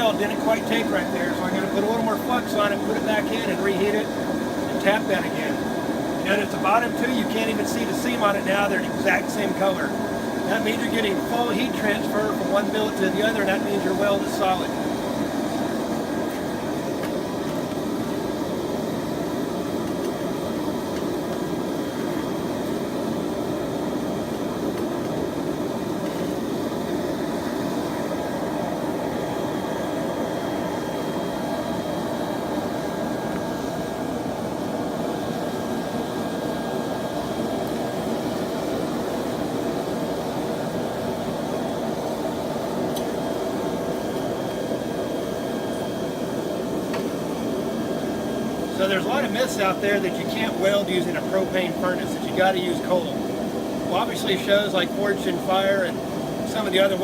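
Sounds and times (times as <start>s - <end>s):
forge burner rushing: 0.0s - 57.0s.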